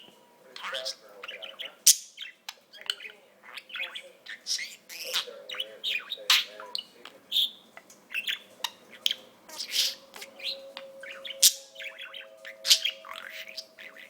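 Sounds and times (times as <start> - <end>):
budgerigar chattering: 0.6 - 14.0.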